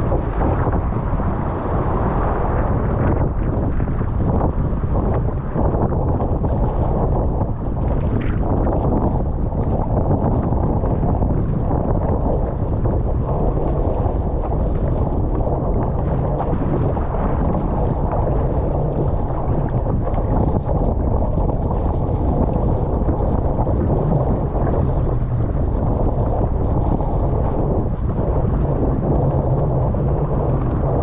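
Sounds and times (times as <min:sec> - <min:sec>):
waves washing: 0:00.0 - 0:31.0
wind buffeting microphone: 0:00.0 - 0:31.0.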